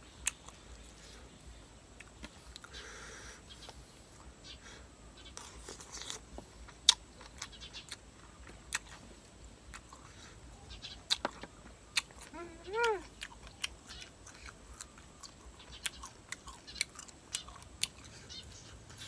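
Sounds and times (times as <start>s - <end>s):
person chewing and crunching food: 0.0s - 2.9s, 5.4s - 19.0s.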